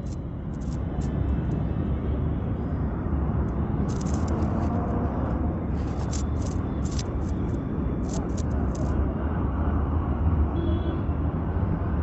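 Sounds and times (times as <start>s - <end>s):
wind rumble and road noise: 0.0s - 12.0s.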